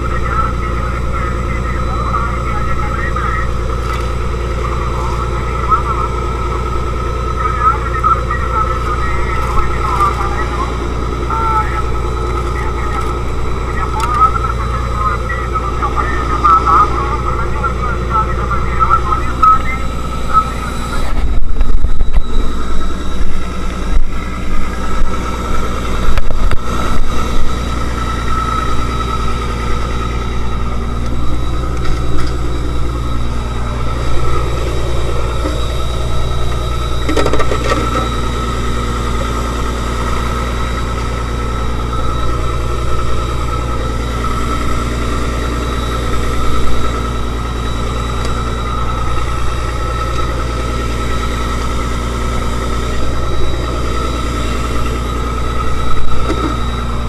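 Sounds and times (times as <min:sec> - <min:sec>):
boat engine humming: 0:00.0 - 0:57.0
high steady tone: 0:00.0 - 0:57.0.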